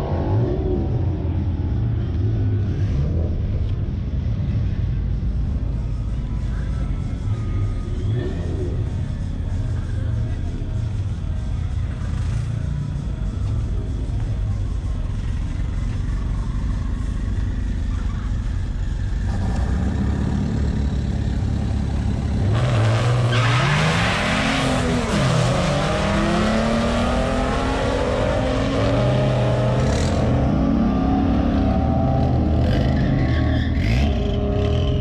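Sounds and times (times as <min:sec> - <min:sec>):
racing car engines running: 0:00.0 - 0:35.0.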